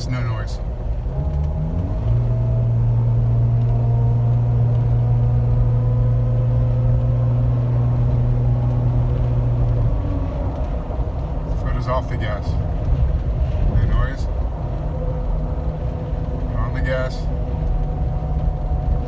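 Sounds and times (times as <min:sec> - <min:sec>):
drivetrain droning hum: 0:00.0 - 0:19.0.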